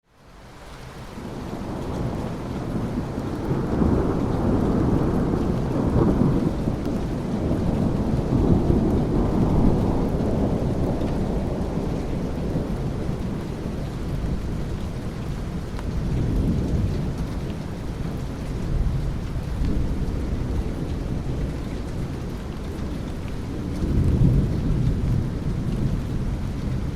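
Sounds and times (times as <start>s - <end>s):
steady rain: 0.0s - 26.9s
rolling thunder: 1.2s - 26.9s.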